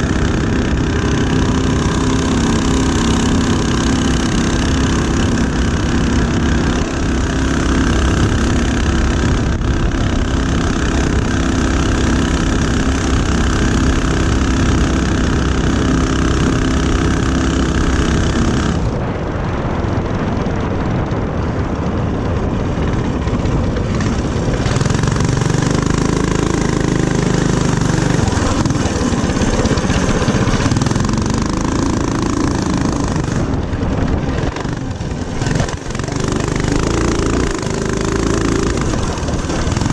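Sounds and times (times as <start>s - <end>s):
mini-bike engine running: 0.0s - 39.9s.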